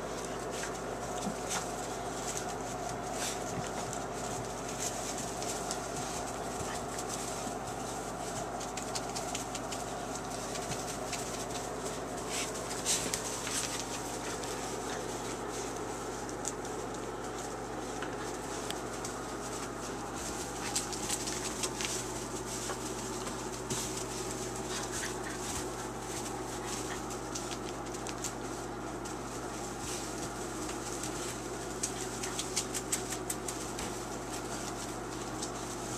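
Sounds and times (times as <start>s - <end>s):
paws scratching wooden wall: 0.0s - 35.9s
puppies scuffling in wood shavings: 0.0s - 35.9s
steady background hum: 0.0s - 35.9s.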